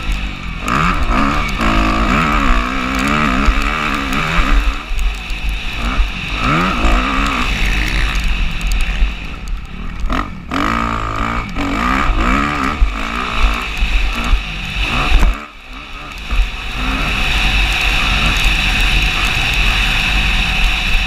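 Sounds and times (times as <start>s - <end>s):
low rumble: 0.0s - 21.0s
motocross bike engine revving: 0.0s - 21.0s.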